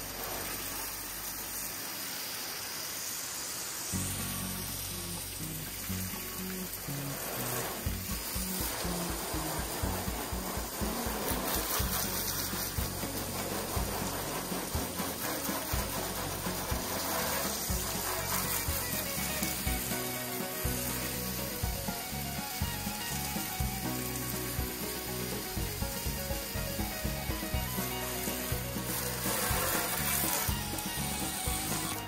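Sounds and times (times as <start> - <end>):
water spray hissing on metal: 0.0 - 32.0.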